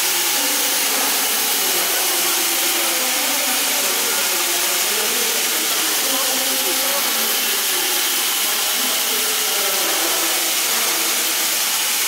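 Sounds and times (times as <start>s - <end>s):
faint voices: 0.0s - 12.0s
steam locomotive hissing: 0.0s - 12.0s.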